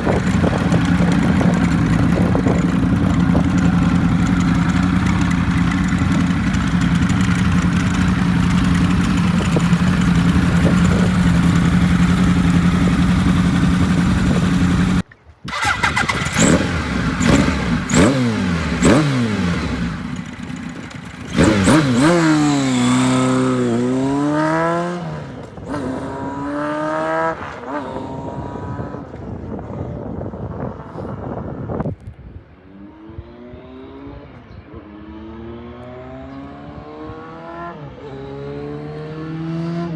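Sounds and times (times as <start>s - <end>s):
motorcycle engine revving: 0.0s - 29.4s, 32.7s - 39.9s.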